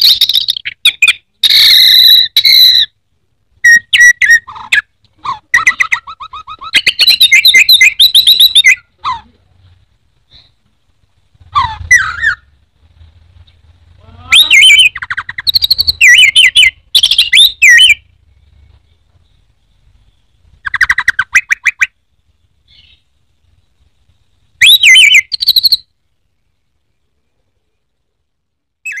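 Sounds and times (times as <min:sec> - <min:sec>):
thrush singing whistles and trills: 0:00.0 - 0:09.3, 0:11.3 - 0:27.2, 0:28.8 - 0:29.0.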